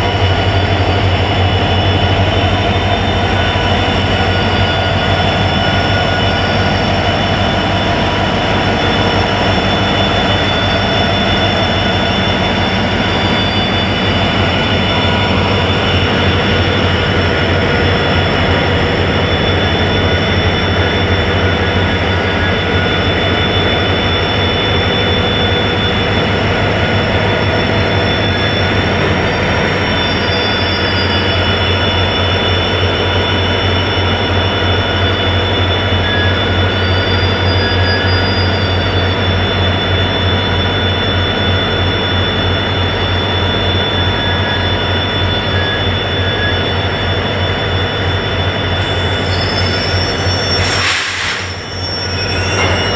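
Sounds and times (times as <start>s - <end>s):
diesel locomotives humming: 0.0s - 52.9s
train rolling noise: 0.0s - 52.9s.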